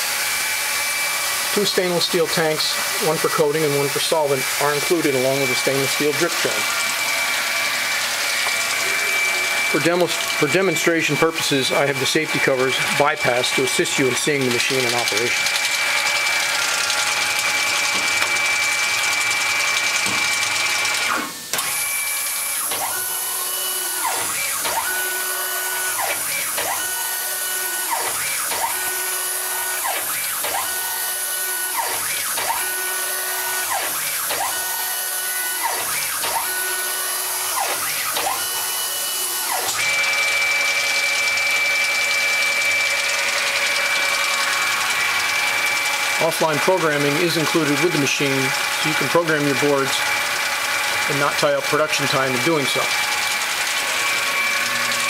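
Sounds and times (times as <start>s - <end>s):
gantry motors whining: 0.0s - 55.0s.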